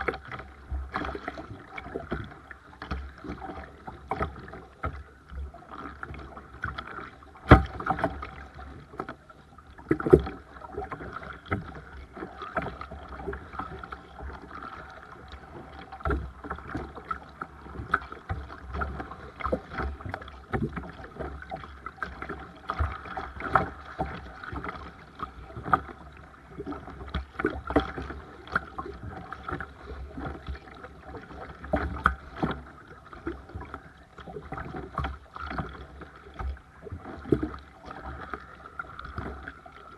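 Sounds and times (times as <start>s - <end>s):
paddle blades splashing: 0.0s - 39.9s
water slapping against hull: 0.0s - 39.9s.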